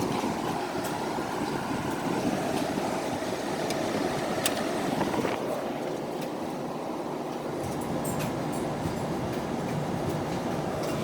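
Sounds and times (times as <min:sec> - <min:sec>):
air conditioner running: 0:00.0 - 0:11.0.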